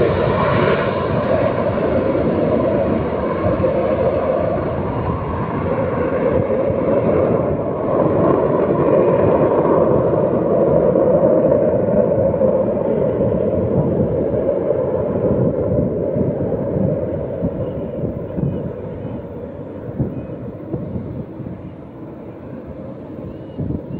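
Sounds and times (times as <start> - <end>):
fighter jet flying past: 0.0 - 23.9.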